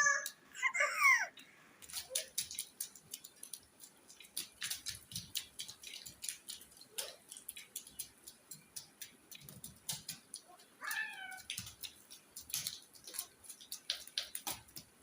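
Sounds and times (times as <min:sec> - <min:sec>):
rain drops tapping: 0:01.8 - 0:15.0.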